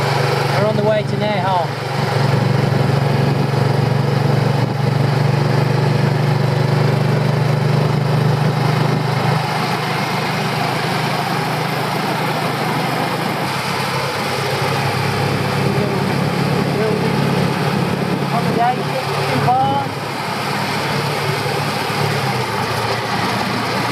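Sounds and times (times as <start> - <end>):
road and wind noise: 0.0 - 23.9
scooter engine running: 0.0 - 23.9.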